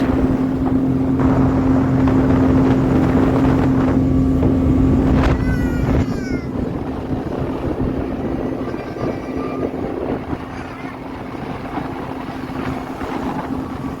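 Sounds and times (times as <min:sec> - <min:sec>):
low rushing rumble: 0:00.0 - 0:14.0
speedboat engine humming: 0:00.0 - 0:14.0.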